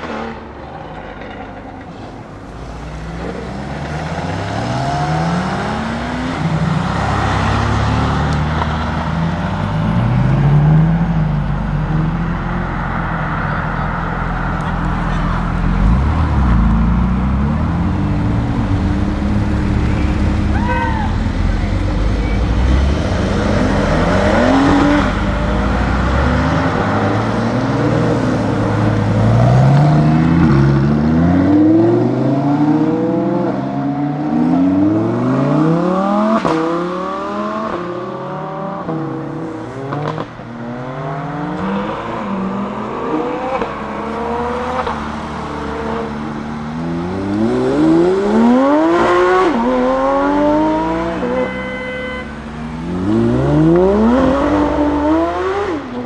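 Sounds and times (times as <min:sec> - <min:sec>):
sports car engine revving: 0:03.0 - 0:56.0.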